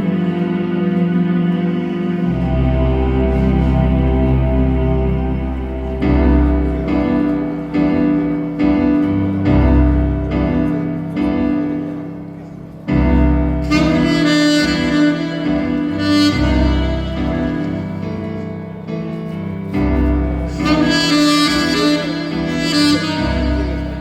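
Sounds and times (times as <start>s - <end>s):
backing track: 0.0s - 24.0s
saxophone playing ballad melody: 0.0s - 24.0s.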